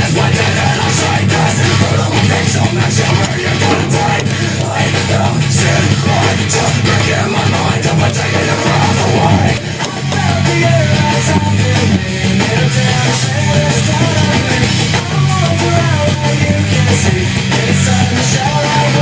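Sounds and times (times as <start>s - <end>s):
heavy rock music with singing: 0.0s - 19.0s.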